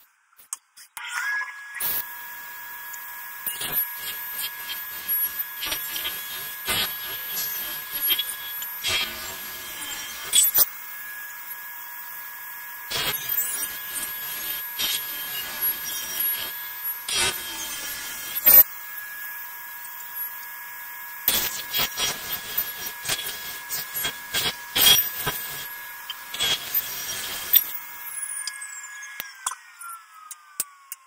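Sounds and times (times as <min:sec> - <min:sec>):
dust collector humming: 0:01.8 - 0:28.1
table saw running: 0:01.8 - 0:31.0.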